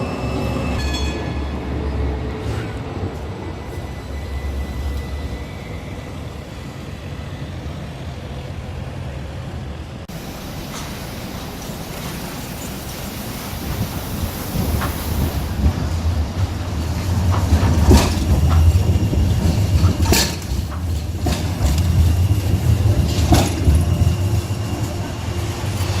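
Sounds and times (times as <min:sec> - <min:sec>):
tram rumbling on rails: 0:00.0 - 0:26.0.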